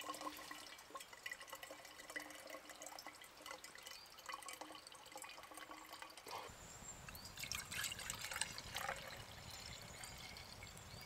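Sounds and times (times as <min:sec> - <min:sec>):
water dripping into metal container: 0:00.0 - 0:11.0.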